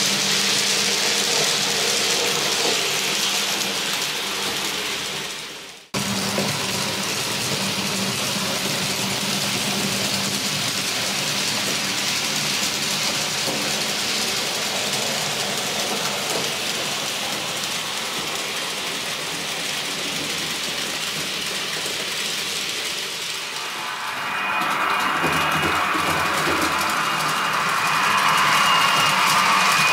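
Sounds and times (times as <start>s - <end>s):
model train wheels rattling on rails: 0.0s - 29.9s.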